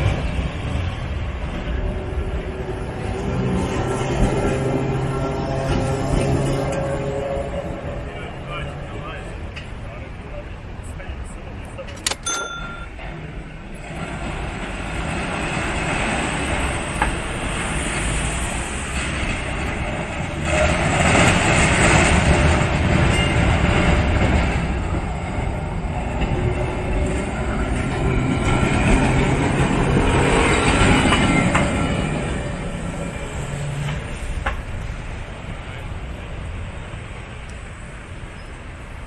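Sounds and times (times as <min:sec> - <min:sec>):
tram rolling over rails: 0:00.0 - 0:39.0.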